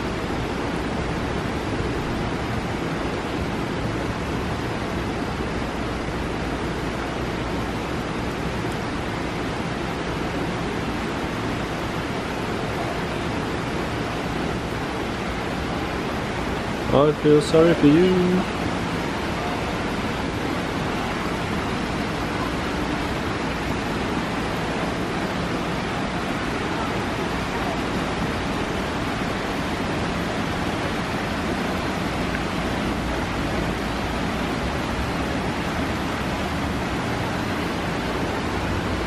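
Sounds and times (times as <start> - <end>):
heavy rain on concrete: 0.0 - 39.0.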